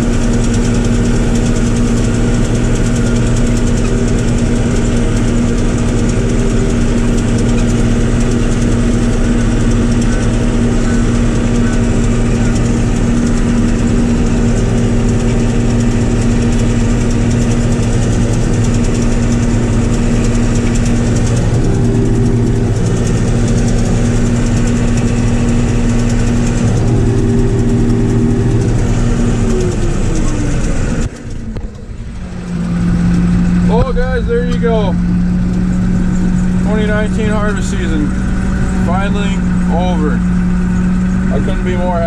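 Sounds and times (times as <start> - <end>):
combine harvester engine drone: 0.0 - 42.0
high machine whine: 0.0 - 42.0.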